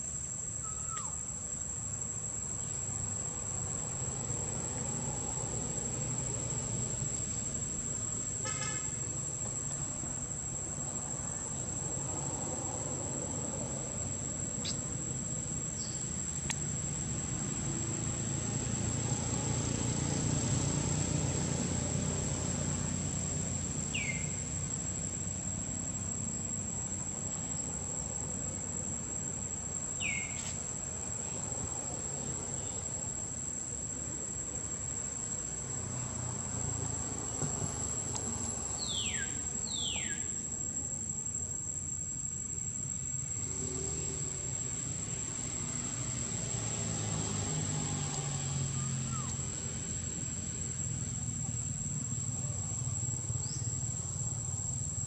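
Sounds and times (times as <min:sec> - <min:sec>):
high-pitched insect drone: 0:00.0 - 0:33.6, 0:38.1 - 0:55.0.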